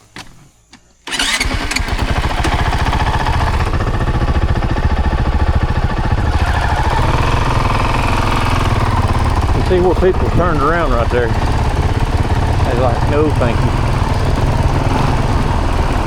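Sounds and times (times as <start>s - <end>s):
vehicle engine starting and running: 1.1s - 16.0s.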